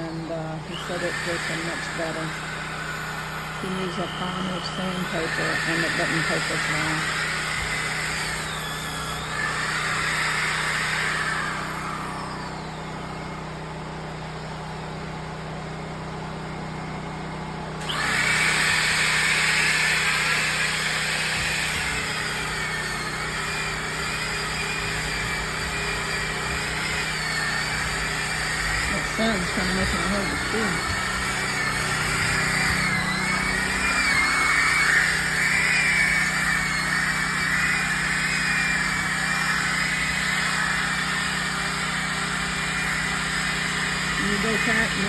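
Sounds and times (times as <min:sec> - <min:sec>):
electric sander whining: 0:00.0 - 0:15.4, 0:16.3 - 0:45.0.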